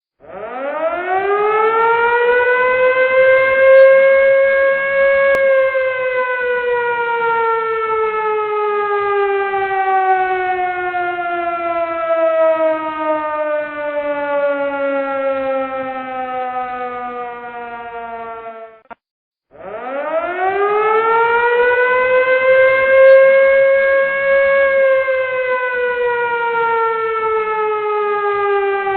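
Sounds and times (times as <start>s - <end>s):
alarm siren wailing: 0.2s - 28.9s.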